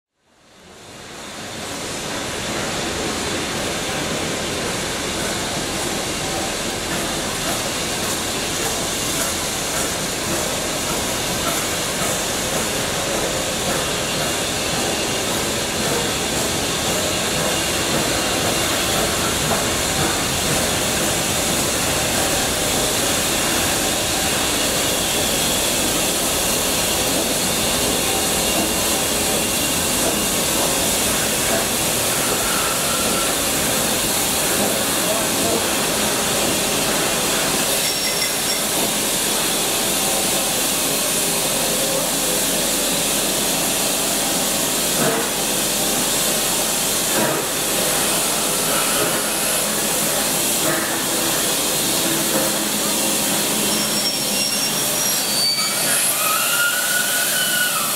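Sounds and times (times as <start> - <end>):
train noise: 0.3 - 57.9
steam hissing: 0.6 - 57.9.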